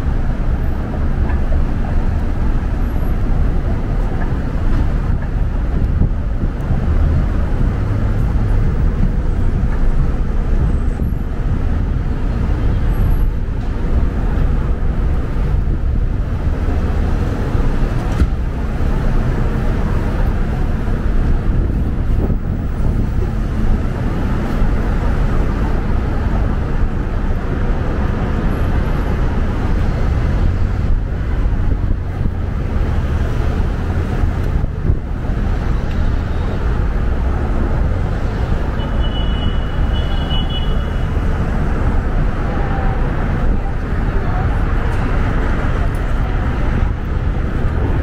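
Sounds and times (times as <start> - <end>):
passing cars rumbling: 0.0 - 48.0.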